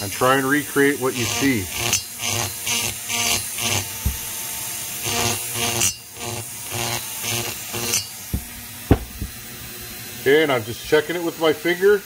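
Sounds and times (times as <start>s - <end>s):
rotary tool grinding metal: 0.0s - 11.1s.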